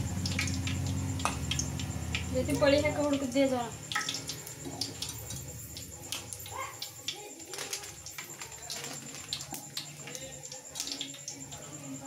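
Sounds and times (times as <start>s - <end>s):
cumin seeds crackling in hot oil: 0.0s - 11.7s.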